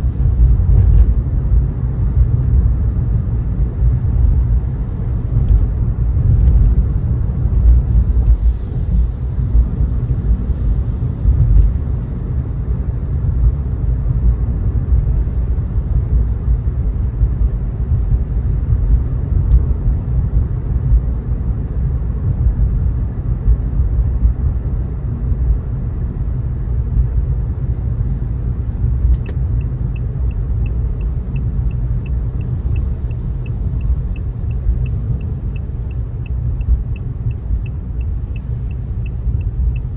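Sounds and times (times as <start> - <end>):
car road and tyre noise: 0.0 - 39.9.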